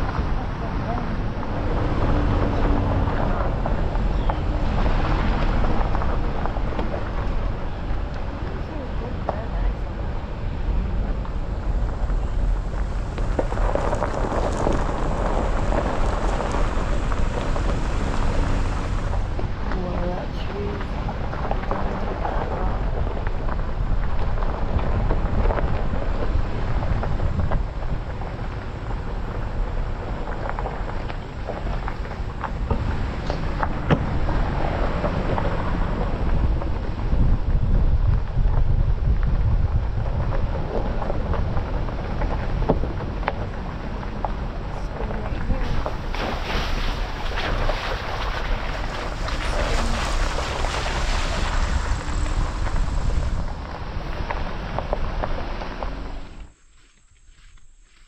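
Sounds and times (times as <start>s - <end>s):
wind buffeting microphone: 0.0s - 56.6s
engine and road rumble: 0.0s - 58.0s.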